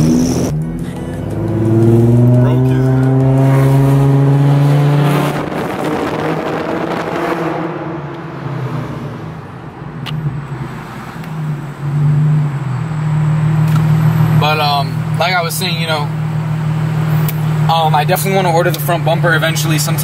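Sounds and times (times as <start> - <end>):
car engine droning: 0.0 - 20.0
road and wind noise: 0.0 - 20.0.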